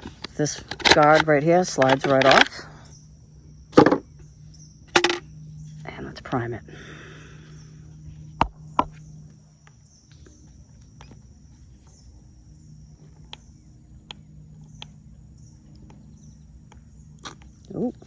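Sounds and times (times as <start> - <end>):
insects trilling: 0.0 - 18.0
steady low hum: 0.0 - 18.0.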